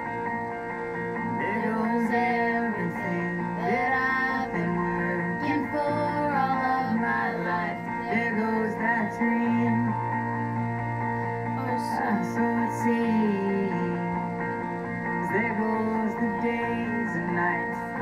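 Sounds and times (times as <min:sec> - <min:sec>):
guitar: 0:00.0 - 0:18.0
held chords: 0:00.0 - 0:18.0
person singing: 0:01.2 - 0:10.3, 0:11.6 - 0:14.4, 0:15.1 - 0:18.0.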